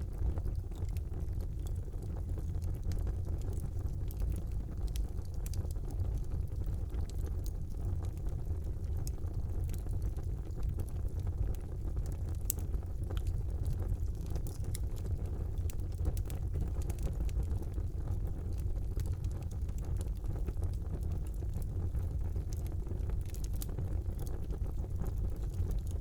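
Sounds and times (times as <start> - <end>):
fire crackling and popping: 0.0 - 26.0
flames rumbling: 0.0 - 26.0.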